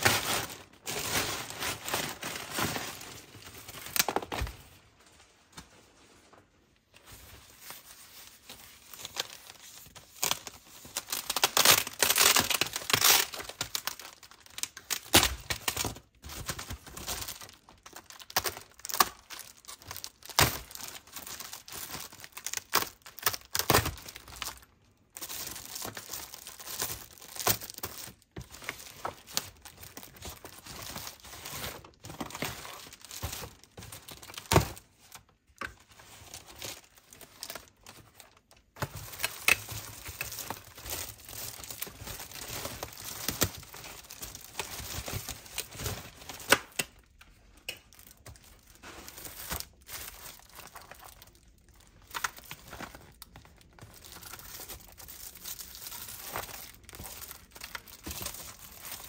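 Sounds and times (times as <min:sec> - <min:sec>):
packaging crinkling and tearing: 0:00.0 - 0:05.8, 0:07.0 - 0:59.0.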